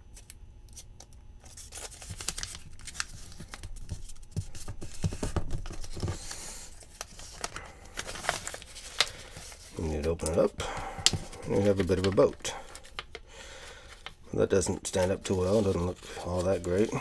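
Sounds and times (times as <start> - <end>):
paper bill crinkling: 0.2 - 17.0
paper rustling: 0.2 - 17.0.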